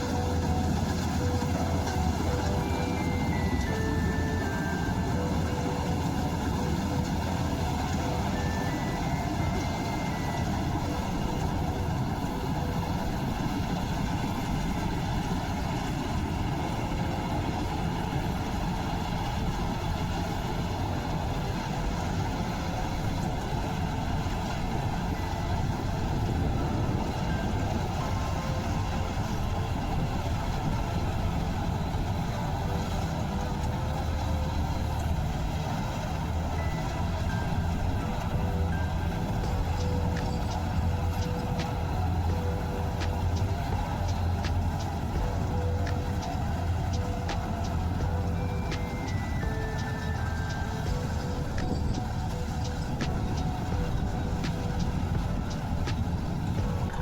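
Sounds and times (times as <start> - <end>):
farm machinery diesel engine: 0.0 - 57.0.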